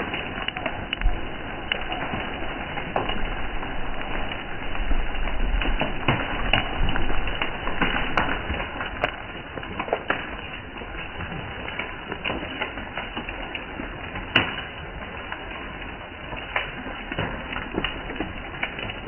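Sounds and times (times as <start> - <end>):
rain on a patio: 0.0 - 19.0
raindrops tapping: 0.0 - 19.0.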